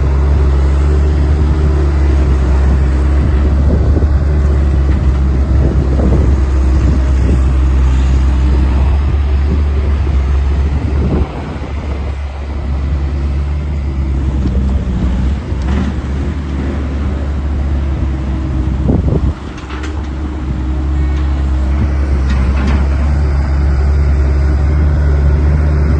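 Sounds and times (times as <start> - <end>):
diesel engine running: 0.0 - 25.9.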